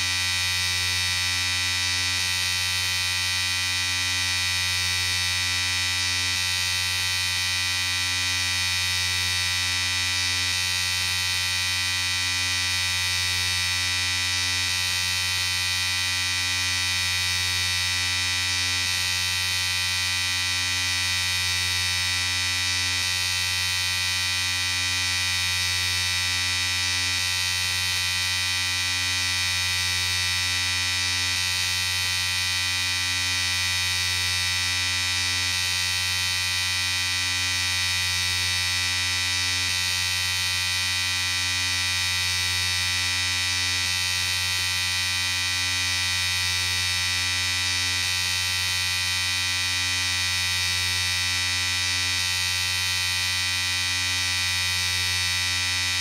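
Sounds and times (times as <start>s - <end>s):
electric shaver buzzing: 0.0s - 56.0s.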